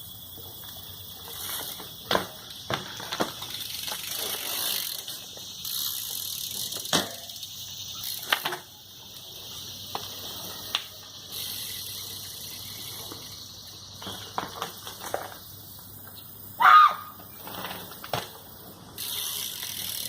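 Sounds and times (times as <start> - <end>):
steady high hiss: 0.0 - 20.0
bike clicks and knocks: 0.2 - 16.4, 17.1 - 20.0.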